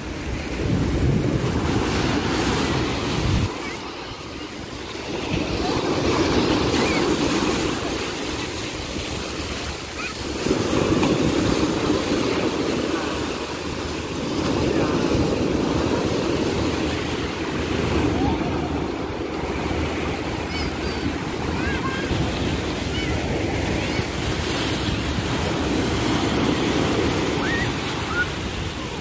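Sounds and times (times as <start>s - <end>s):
surf breaking on sandy shore: 0.0s - 29.0s.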